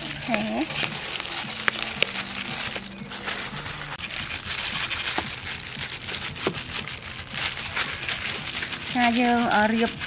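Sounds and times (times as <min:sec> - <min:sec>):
plastic gloves crinkling: 0:00.0 - 0:10.0
shredded cassava rustling: 0:00.0 - 0:10.0.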